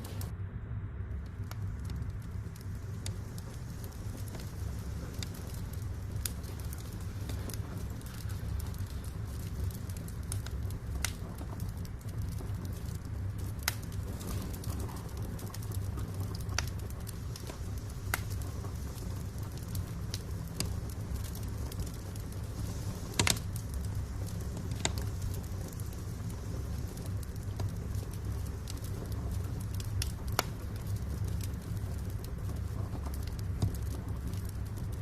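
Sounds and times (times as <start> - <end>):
wood fire crackling: 0.0 - 0.3, 1.0 - 35.0
low fire rumble: 0.0 - 35.0.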